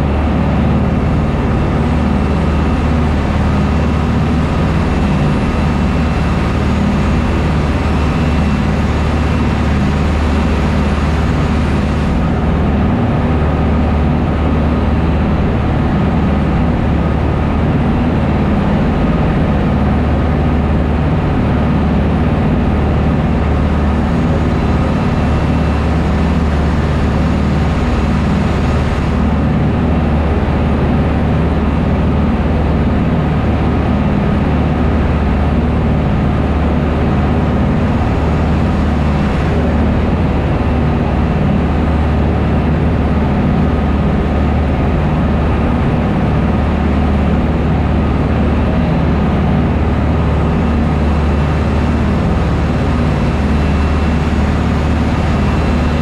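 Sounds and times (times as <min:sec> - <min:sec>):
boat engines droning: 0:00.0 - 0:56.0
rushing wake water: 0:00.0 - 0:56.0.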